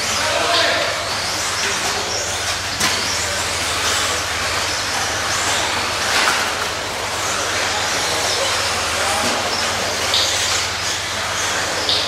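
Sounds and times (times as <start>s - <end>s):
toy car motors whining: 0.0s - 12.0s.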